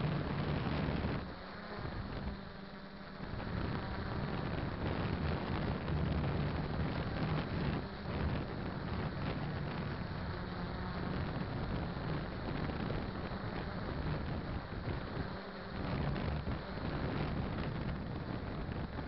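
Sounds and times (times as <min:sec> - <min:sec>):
wind on microphone: 0:00.0 - 0:02.5, 0:03.2 - 0:19.0
drone motors and propellers: 0:00.0 - 0:19.0.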